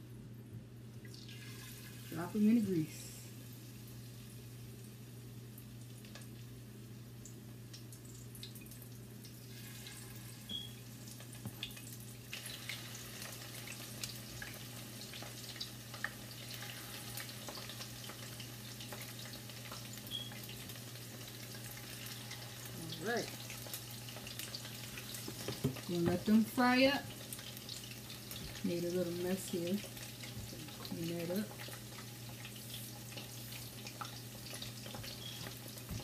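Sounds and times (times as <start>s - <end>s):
shrimp frying in oil: 1.1s - 36.0s.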